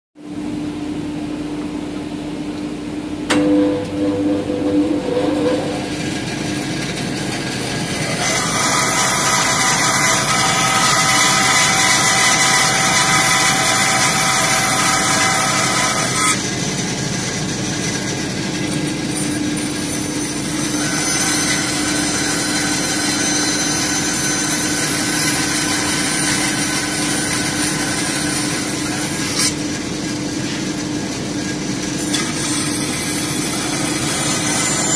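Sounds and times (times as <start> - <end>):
bandsaw humming: 3.3 - 34.9
saw blade cutting wood: 3.4 - 30.6, 31.4 - 34.9.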